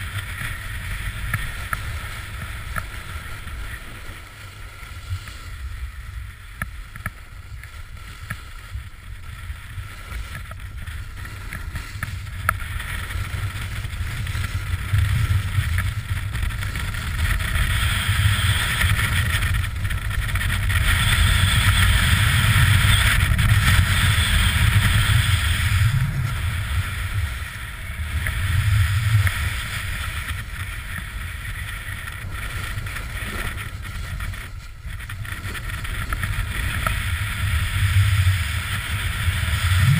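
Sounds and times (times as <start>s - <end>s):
skis sliding on packed snow: 0.0s - 39.9s.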